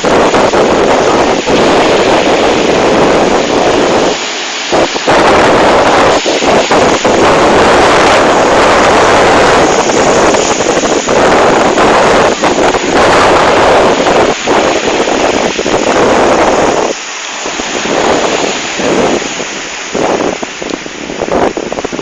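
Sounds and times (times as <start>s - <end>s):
ocean waves: 0.0s - 22.0s
wind buffeting microphone: 0.0s - 22.0s.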